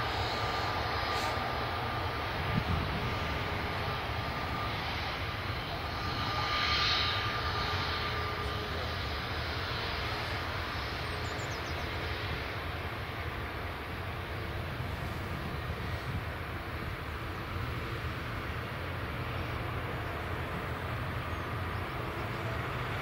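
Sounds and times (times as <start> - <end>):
airliner engines whining: 0.0 - 23.0.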